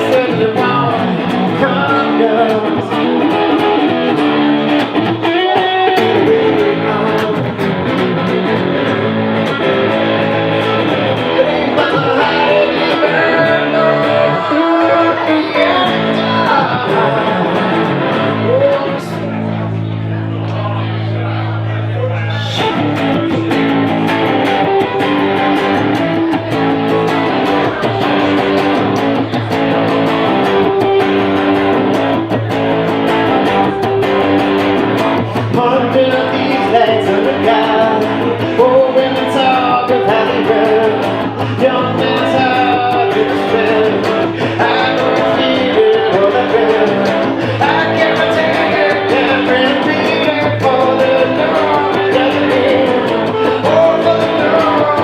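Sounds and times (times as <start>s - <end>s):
live rock-blues band: 0.0s - 19.6s, 22.5s - 55.0s
electric guitar: 0.0s - 55.0s.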